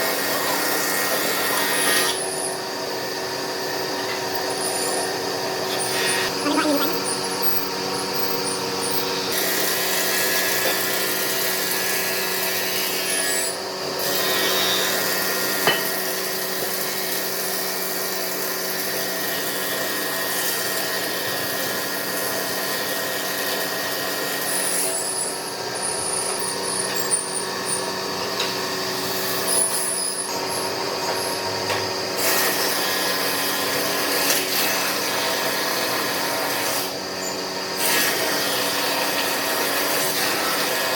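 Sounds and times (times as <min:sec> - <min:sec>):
wood lathe motor hum: 0:00.0 - 0:40.9.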